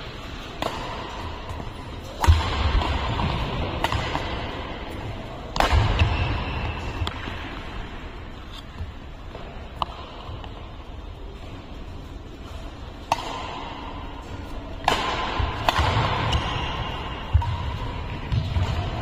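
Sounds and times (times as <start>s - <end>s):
rackets hitting shuttlecock: 0.0s - 11.6s, 12.4s - 19.0s.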